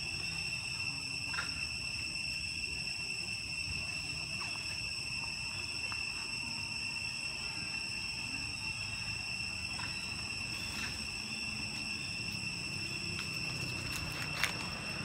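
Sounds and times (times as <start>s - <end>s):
shrill insect drone: 0.0s - 15.0s.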